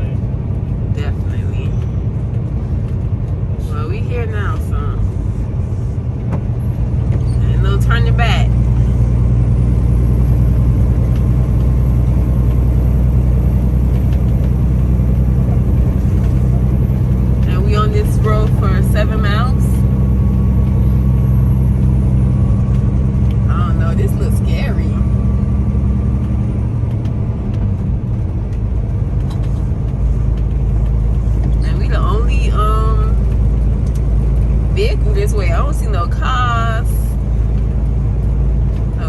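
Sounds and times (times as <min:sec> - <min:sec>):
diesel engine drone: 0:00.0 - 0:39.0
road noise: 0:00.0 - 0:39.0.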